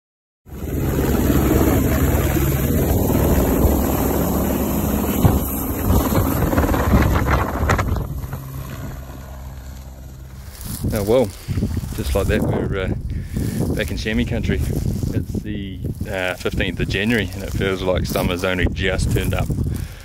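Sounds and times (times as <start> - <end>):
helicopter engine and rotor drone: 0.5 - 20.0
wind on microphone: 0.5 - 20.0.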